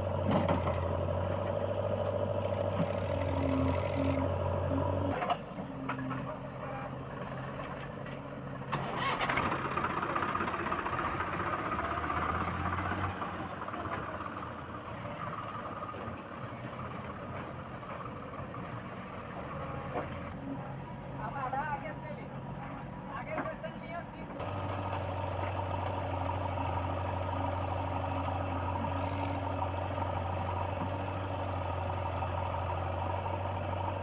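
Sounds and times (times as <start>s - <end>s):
diesel engines running: 0.0s - 34.0s.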